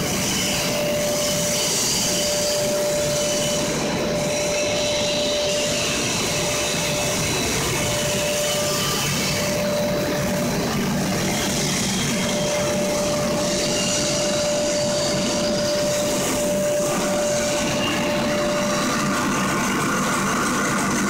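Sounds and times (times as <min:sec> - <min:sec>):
constant machine whine: 0:00.0 - 0:21.0
extruder machine running: 0:00.0 - 0:21.0.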